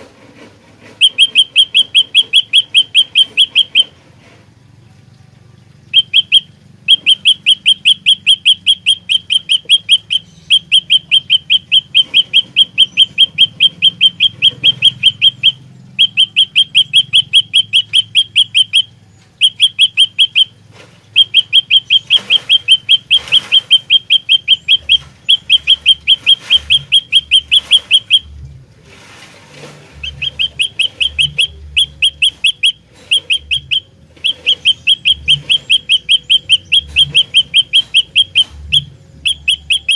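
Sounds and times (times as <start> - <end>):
bird singing sharp chirps: 1.0 - 4.0, 4.6 - 28.4, 29.8 - 39.9.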